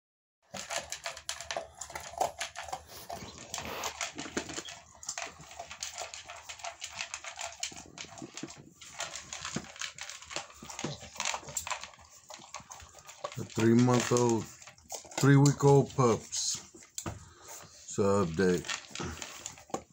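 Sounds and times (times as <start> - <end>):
dog lapping and chewing: 0.4 - 19.9.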